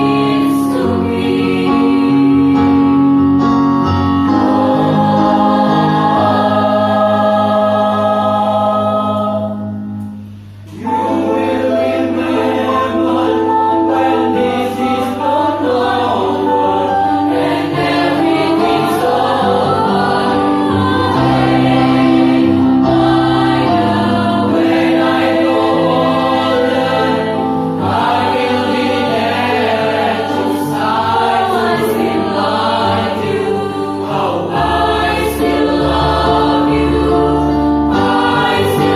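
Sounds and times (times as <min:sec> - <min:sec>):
choir singing in parts: 0:00.0 - 0:03.4, 0:04.2 - 0:38.9.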